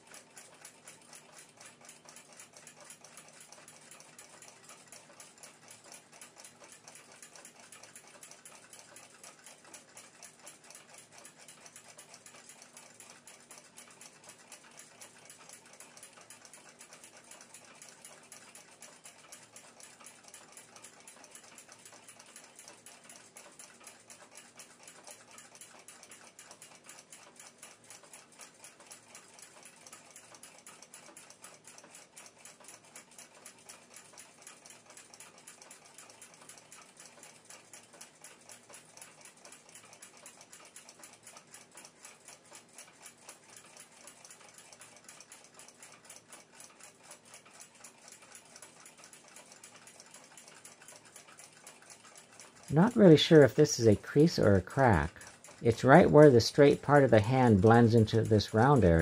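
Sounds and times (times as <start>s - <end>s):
faint fast clock ticking: 0.0s - 59.0s.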